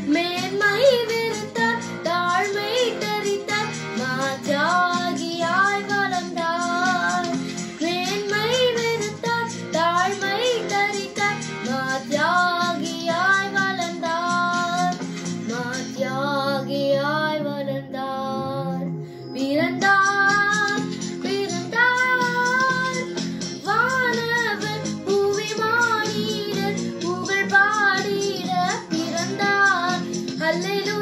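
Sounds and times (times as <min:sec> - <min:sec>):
instrumental accompaniment: 0:00.0 - 0:16.0, 0:18.4 - 0:31.0
girl singing: 0:00.0 - 0:31.0.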